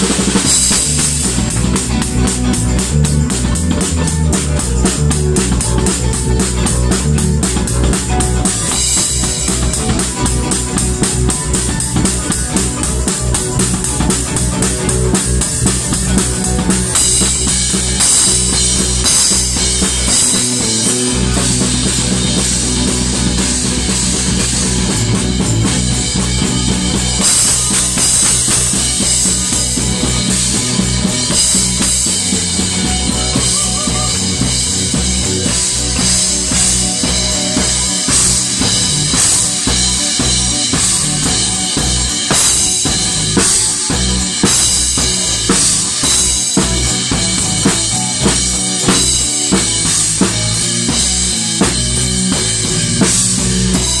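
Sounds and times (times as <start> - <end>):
live funk-rock band playing: 0.0 - 54.0.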